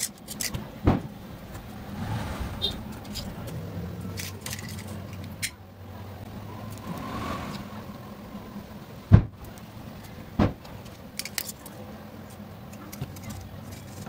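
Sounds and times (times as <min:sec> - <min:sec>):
low hum: 0:00.5 - 0:14.0.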